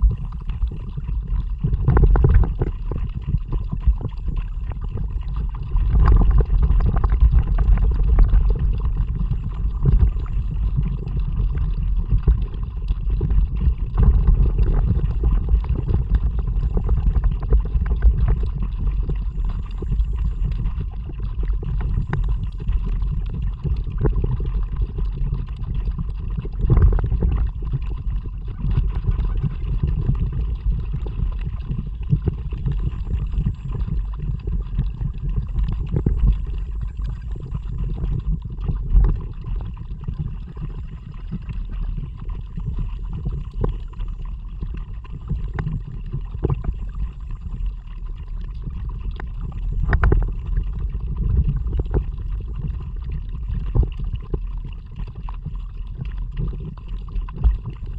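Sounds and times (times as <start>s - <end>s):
water splashing around paddle: 0.0s - 57.9s
wind rumble on microphone: 0.0s - 57.9s.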